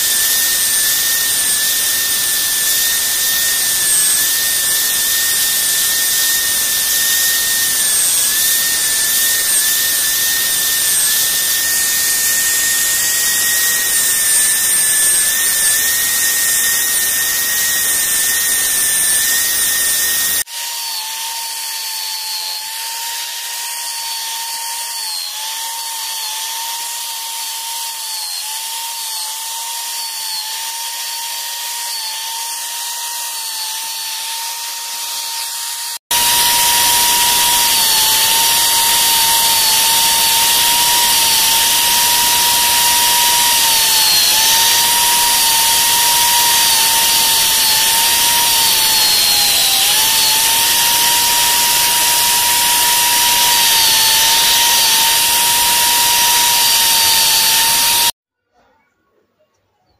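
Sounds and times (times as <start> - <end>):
power tool motor whining: 0.0 - 58.2.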